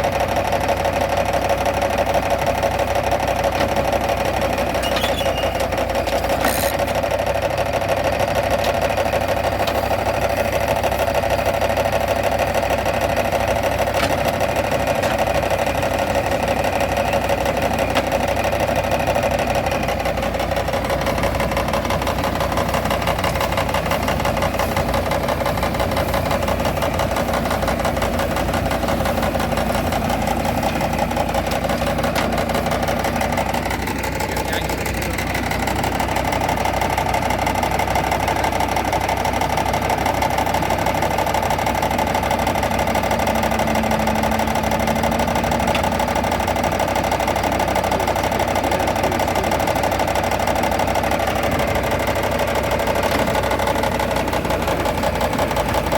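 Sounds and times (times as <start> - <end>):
fast mechanical beat of baler: 0.0 - 55.9
tractor engine running: 0.0 - 55.9.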